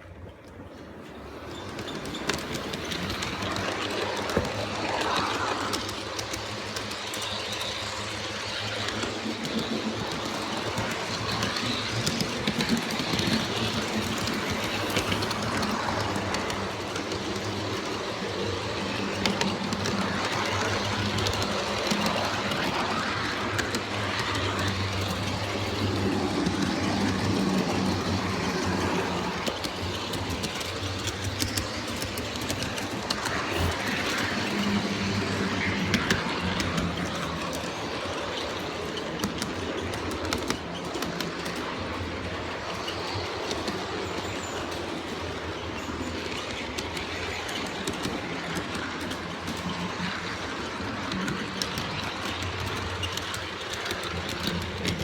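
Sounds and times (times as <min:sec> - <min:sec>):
model locomotive humming: 0:00.0 - 0:55.0
wheels clicking over rail joints: 0:00.0 - 0:55.0.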